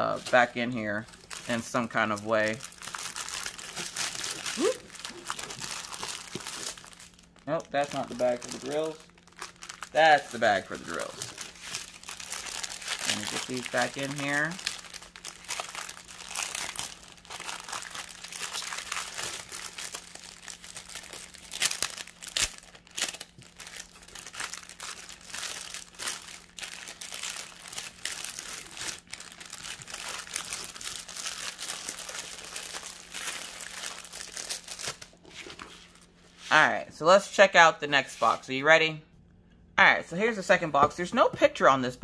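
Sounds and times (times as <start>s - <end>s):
plastic bag crinkling: 0.2s - 36.2s.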